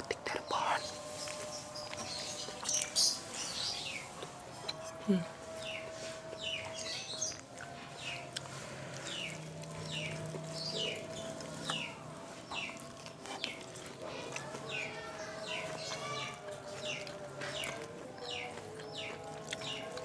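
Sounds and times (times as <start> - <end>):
bird chirping: 0.2 - 20.0.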